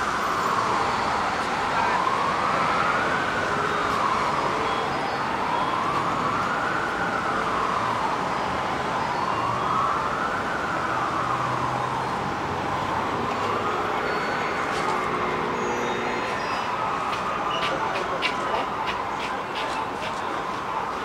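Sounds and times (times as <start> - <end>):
emergency vehicle siren wailing: 0.0 - 21.0
steady background noise: 0.0 - 21.0.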